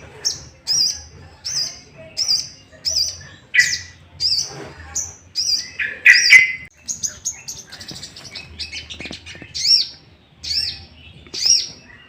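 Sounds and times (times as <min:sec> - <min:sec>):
bird high wavering chirps: 0:00.2 - 0:12.0.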